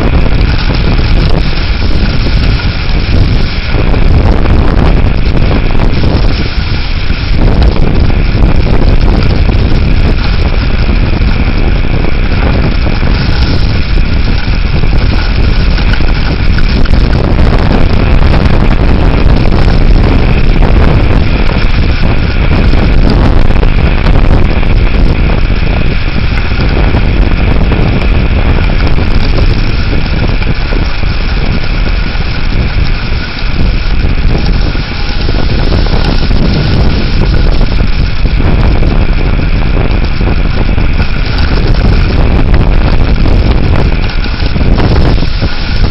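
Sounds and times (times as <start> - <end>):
strong wind buffeting microphone: 0.0 - 45.9.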